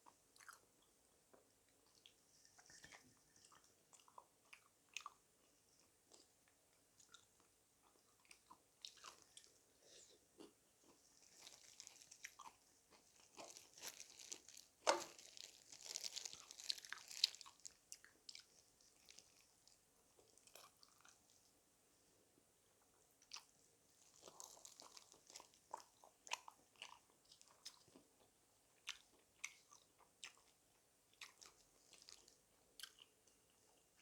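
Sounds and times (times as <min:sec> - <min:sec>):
chewing and crunching fried chicken: 0:00.0 - 0:34.0.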